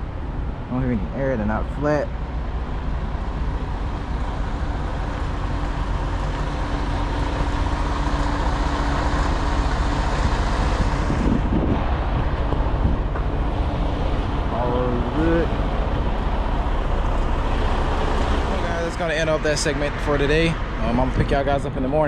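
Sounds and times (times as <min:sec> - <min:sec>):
truck diesel engine idling: 0:02.1 - 0:22.0.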